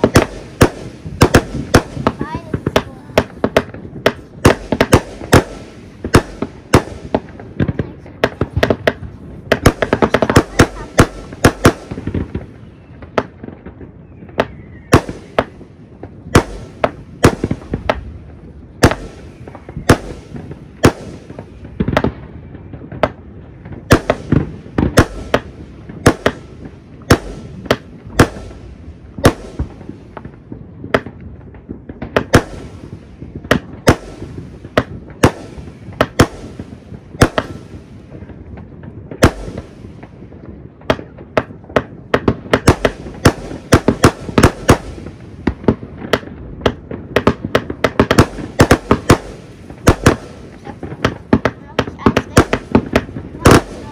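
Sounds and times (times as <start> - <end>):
distant firing: 0.0 - 18.1, 18.8 - 31.1, 31.8 - 38.4, 39.1 - 40.1, 40.7 - 53.9
fireworks bangs: 0.0 - 53.9
fireworks crackle: 0.0 - 53.9.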